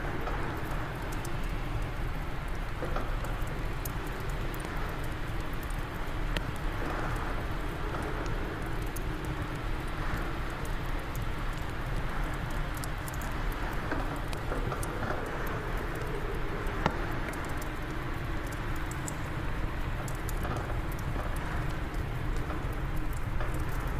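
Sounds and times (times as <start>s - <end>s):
steady wind: 0.0s - 23.9s
wood fire crackling and popping: 0.0s - 23.9s.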